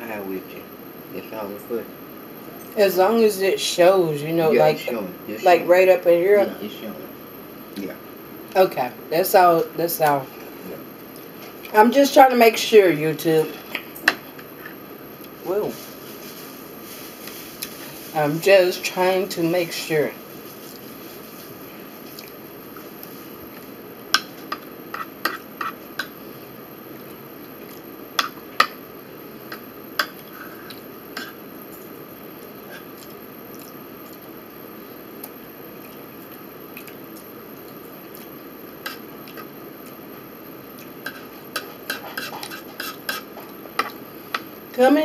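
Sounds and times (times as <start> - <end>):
steady low hiss: 0.0 - 45.0.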